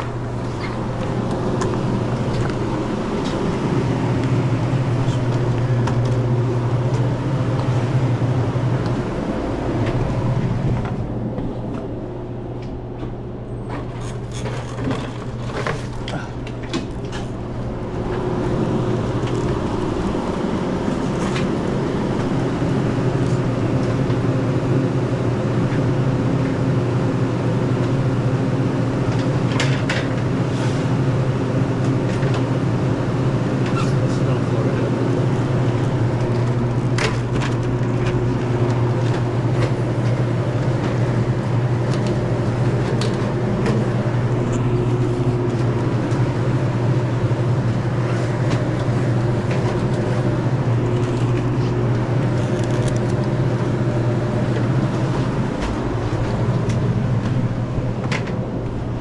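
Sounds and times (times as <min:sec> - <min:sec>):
refrigeration fan hum: 0:00.0 - 0:59.0.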